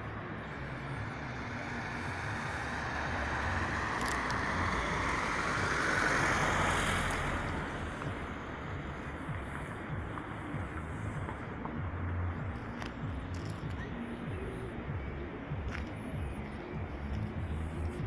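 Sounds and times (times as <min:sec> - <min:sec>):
road vehicle passing by: 0:00.0 - 0:18.0.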